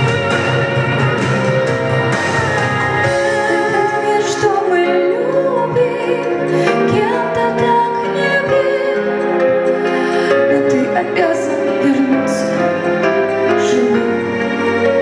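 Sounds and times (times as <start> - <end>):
sustained instrumental accompaniment: 0.0 - 15.0.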